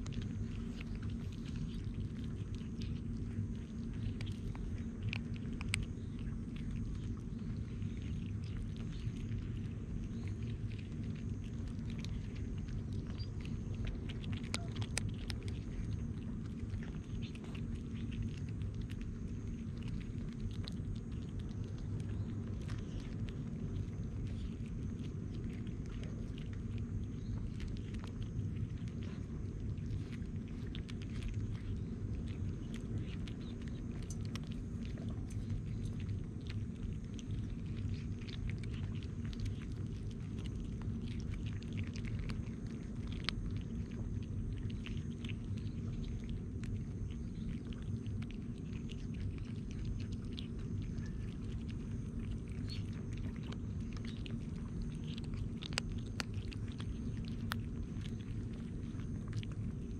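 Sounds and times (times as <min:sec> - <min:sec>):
kittens crunching dry kibble: 0:00.0 - 0:59.9
steady low rumble: 0:00.0 - 0:59.9.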